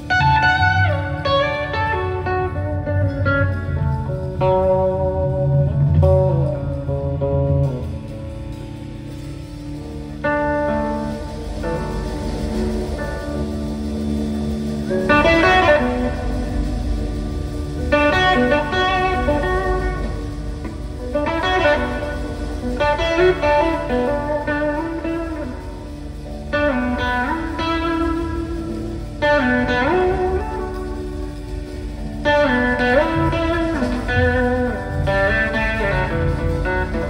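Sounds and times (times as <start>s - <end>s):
bass and drums: 0.0s - 37.0s
electric guitar solo: 0.0s - 37.0s.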